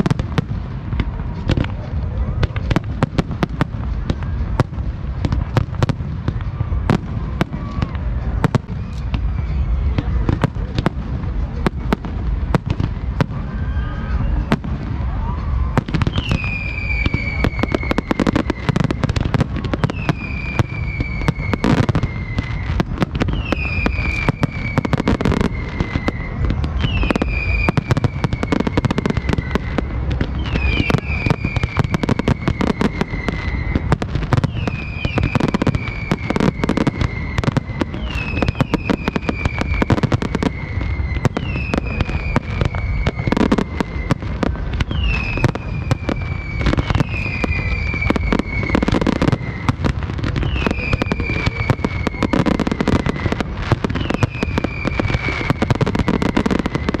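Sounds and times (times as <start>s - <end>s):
falling firework whistle: 0.0s - 57.0s
fireworks bangs and crackling: 0.0s - 57.0s
heavy firework booms: 0.0s - 57.0s.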